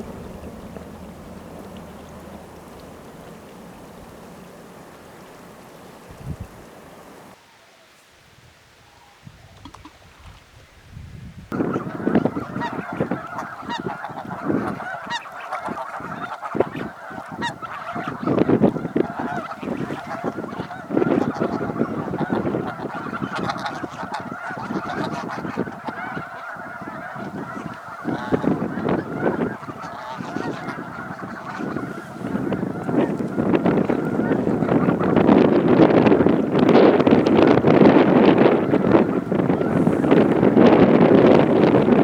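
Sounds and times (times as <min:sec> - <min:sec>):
flock of wetland birds calling: 0:00.0 - 0:07.4, 0:11.5 - 0:42.0.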